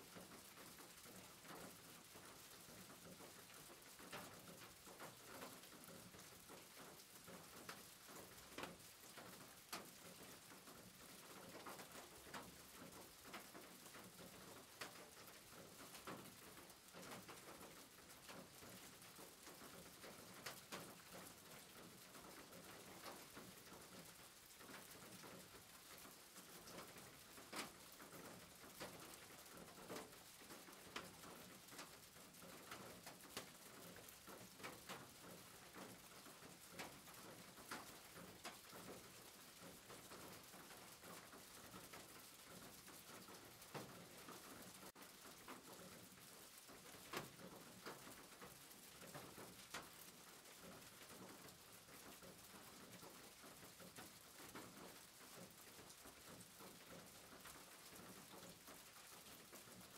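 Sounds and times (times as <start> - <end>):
faint rain on a roof: 0.0 - 59.9.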